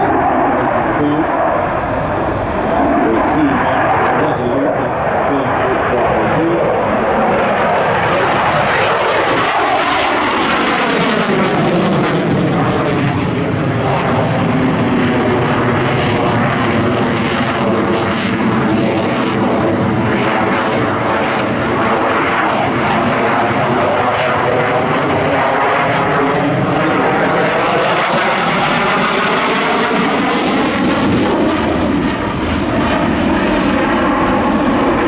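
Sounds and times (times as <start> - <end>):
jet engine roaring: 0.0 - 35.0.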